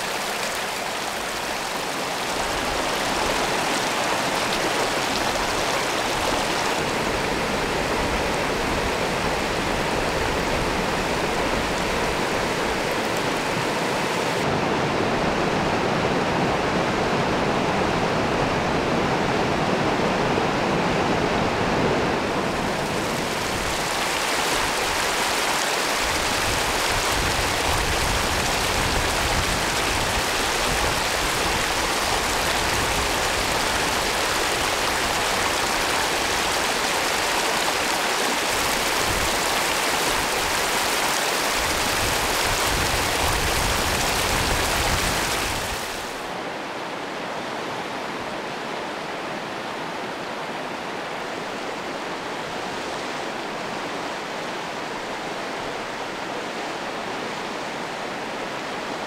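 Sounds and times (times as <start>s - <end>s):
river running among rocks: 0.0s - 59.0s.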